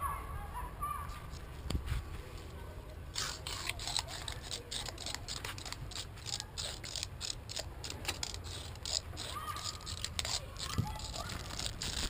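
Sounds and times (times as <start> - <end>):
scratchy rustles on artificial grass: 1.1 - 12.0.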